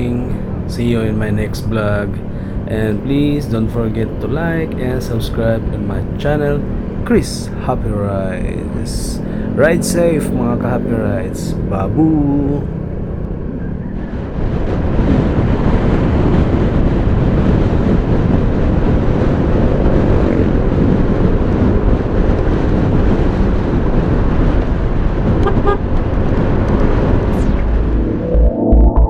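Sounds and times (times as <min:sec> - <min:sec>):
motorcycle road noise: 0:00.0 - 0:28.3
wind rumble on microphone: 0:00.0 - 0:28.3.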